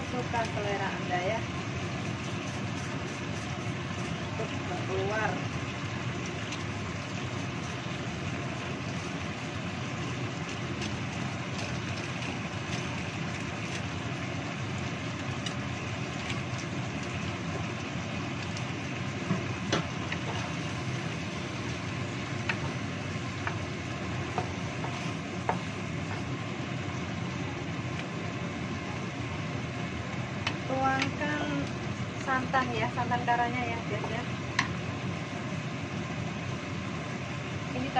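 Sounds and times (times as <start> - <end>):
sauce simmering and sizzling: 0.0 - 37.9.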